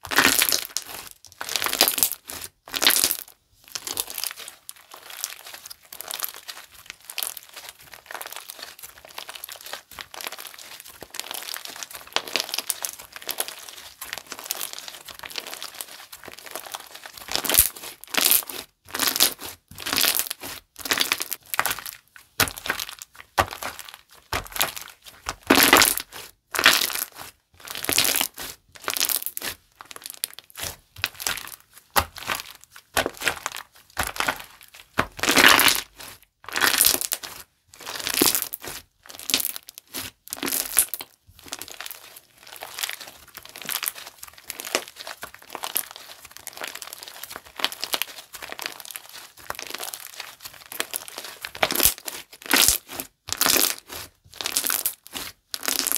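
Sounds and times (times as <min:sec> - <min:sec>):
slime squishing: 0:00.0 - 0:55.9
slime crackling: 0:00.1 - 0:55.9.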